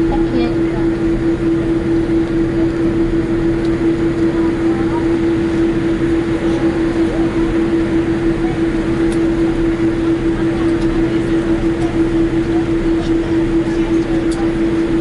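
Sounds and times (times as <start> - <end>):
aircraft cabin rumble and air rush: 0.0 - 15.0
constant hum: 0.0 - 15.0.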